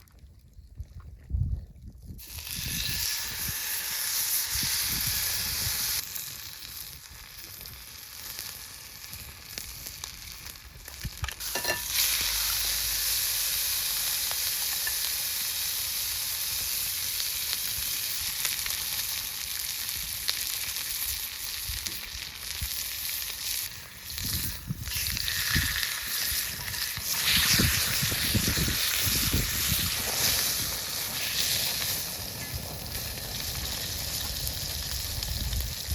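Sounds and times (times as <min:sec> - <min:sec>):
steak sizzling in skillet: 0:02.2 - 0:35.9.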